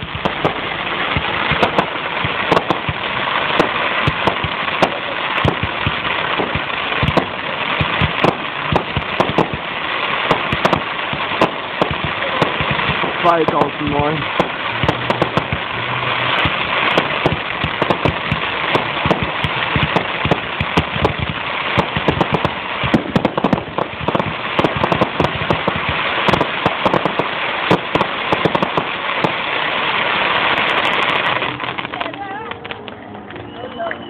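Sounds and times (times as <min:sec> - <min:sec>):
fireworks bangs and crackle: 0:00.0 - 0:34.0.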